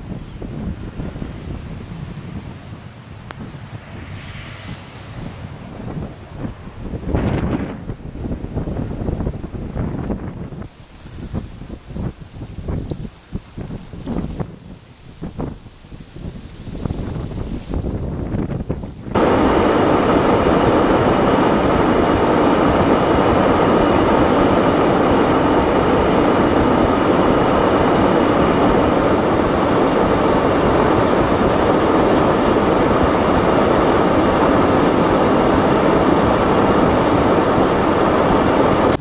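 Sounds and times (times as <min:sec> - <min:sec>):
steady loud rushing noise: 0:00.0 - 0:39.0.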